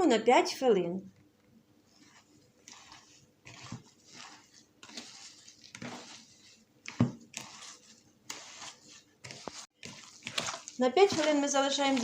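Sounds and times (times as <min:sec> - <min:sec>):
hands squishing wet mixture: 0:01.8 - 0:12.0.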